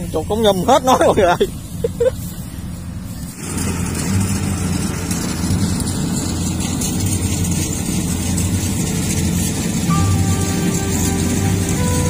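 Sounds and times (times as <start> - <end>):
combine harvester engine humming: 0.0 - 12.0.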